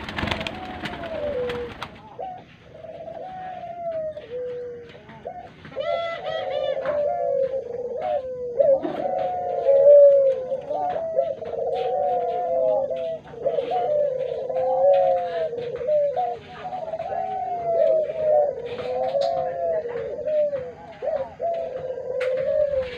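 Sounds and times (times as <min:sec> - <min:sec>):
doves cooing: 0:00.0 - 0:22.9.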